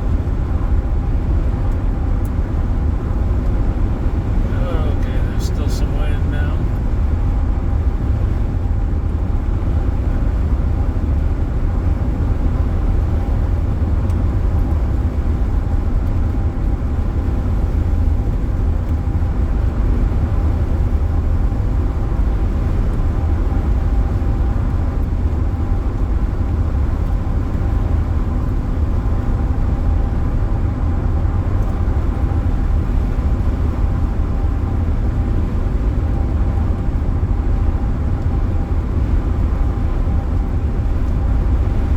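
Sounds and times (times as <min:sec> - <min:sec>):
faint steady whine: 0:00.0 - 0:41.9
road rumble inside car: 0:00.0 - 0:41.9.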